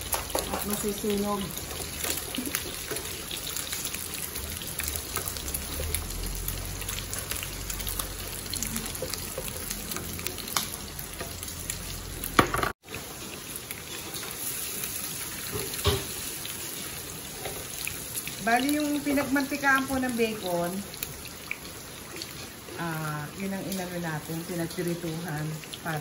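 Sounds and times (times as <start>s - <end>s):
meat sizzling in a pan: 0.0s - 26.0s.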